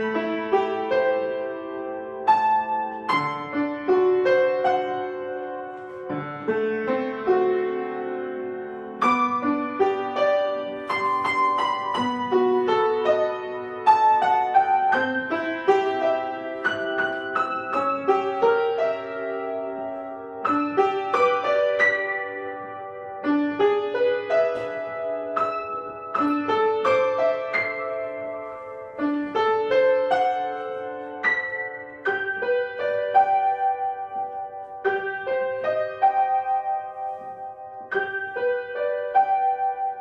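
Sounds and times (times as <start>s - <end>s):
solo piano melody: 0.0s - 40.0s.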